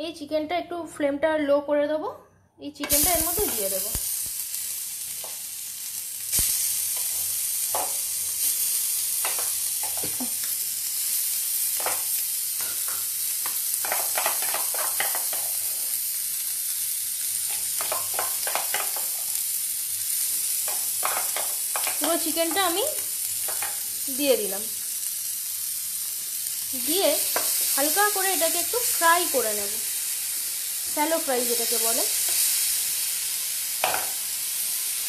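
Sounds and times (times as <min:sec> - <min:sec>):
chicken sizzling in hot oil: 0:02.9 - 0:35.0.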